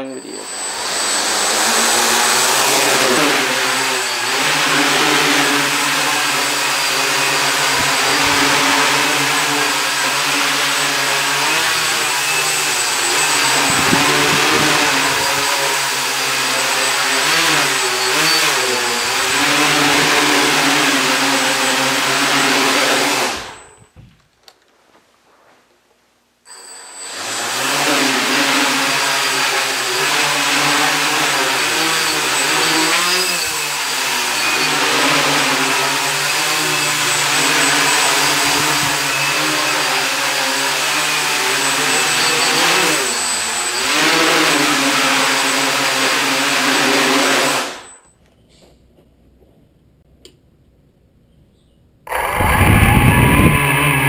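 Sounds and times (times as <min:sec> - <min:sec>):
drone propellers whirring: 0:00.0 - 0:23.7, 0:26.8 - 0:47.9, 0:52.1 - 0:54.0.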